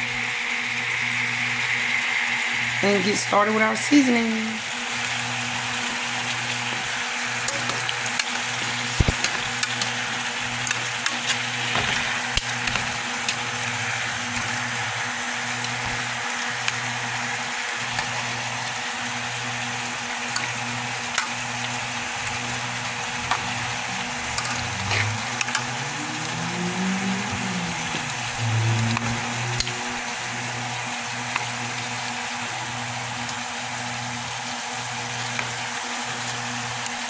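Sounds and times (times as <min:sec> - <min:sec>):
chicken sizzling in butter: 0:00.1 - 0:37.0.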